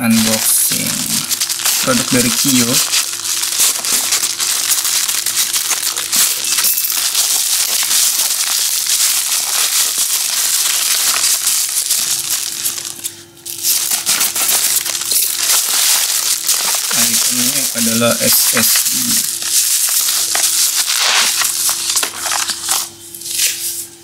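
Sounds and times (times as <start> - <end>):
plastic mailer tearing: 0.0 - 23.6
plastic packaging crinkling: 0.0 - 23.8
bubble wrap handled: 0.0 - 23.9.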